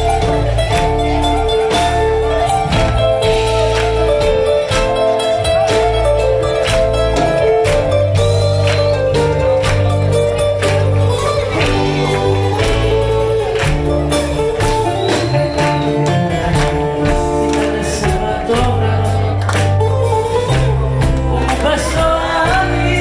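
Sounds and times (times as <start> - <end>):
bouzouki: 0.0 - 23.0
live band playing pop song: 0.0 - 23.0.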